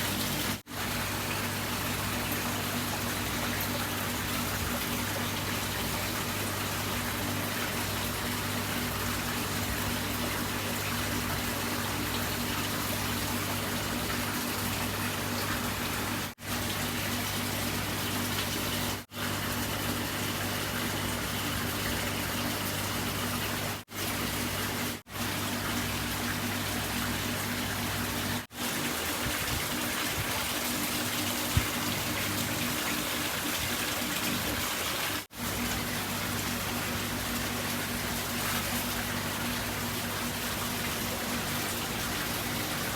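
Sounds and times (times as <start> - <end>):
running water rushing: 0.0 - 42.9.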